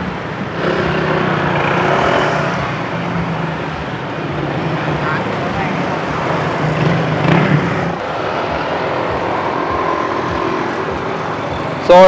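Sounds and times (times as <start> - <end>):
vehicle engines humming: 0.0 - 12.0
vehicle passing close: 0.0 - 12.0.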